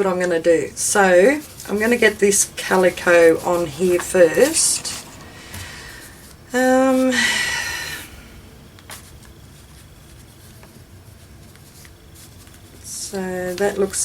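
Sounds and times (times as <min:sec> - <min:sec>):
fabric and paper rustling: 0:00.0 - 0:08.3, 0:08.9 - 0:14.0.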